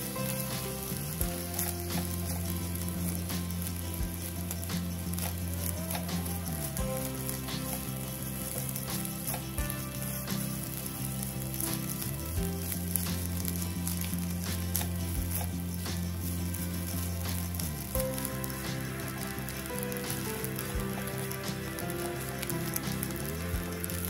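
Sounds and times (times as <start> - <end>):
rice sizzling in a pan: 0.0 - 24.0.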